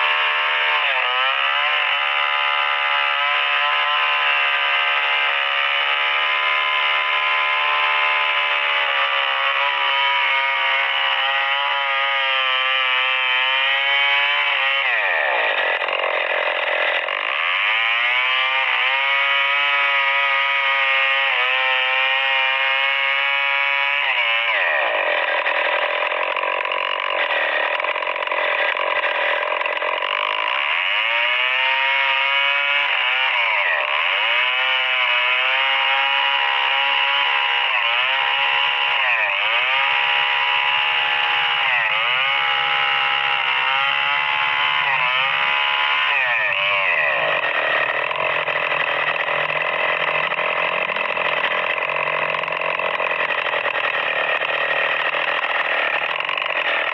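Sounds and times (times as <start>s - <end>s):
chainsaw cutting log: 0.0s - 56.9s.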